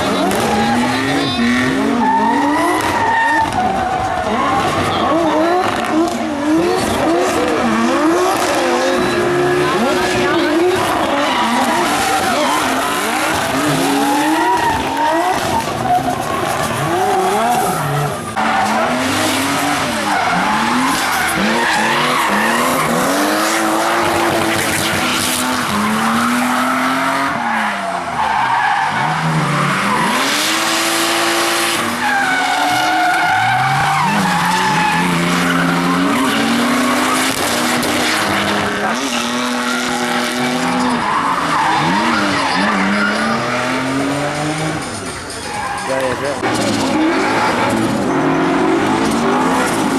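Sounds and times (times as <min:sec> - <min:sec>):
car engines revving: 0:00.0 - 0:49.9
tyres squealing and skidding: 0:00.0 - 0:49.9.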